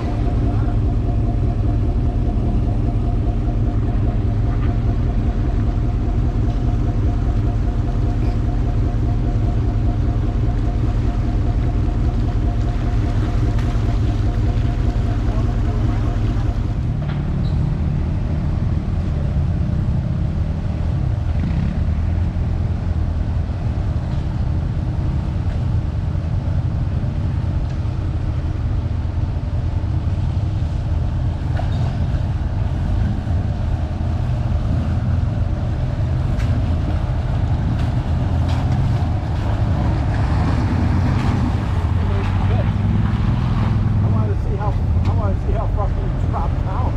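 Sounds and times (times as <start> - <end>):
jeep engine droning: 0.0 - 46.9.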